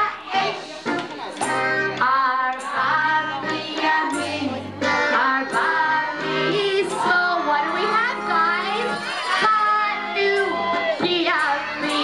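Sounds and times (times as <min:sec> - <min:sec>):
children and women singing: 0:00.0 - 0:12.0.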